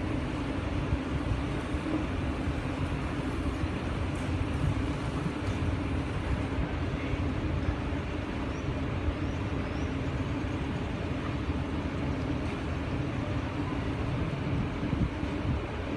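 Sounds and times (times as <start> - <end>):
crane diesel engine rumbling: 0.0 - 15.9.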